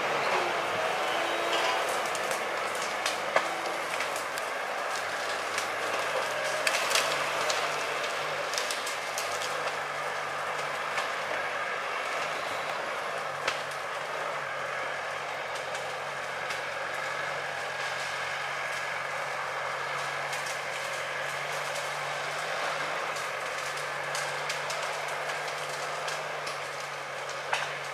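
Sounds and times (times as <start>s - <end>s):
tractor engine running under load: 0.0s - 27.9s.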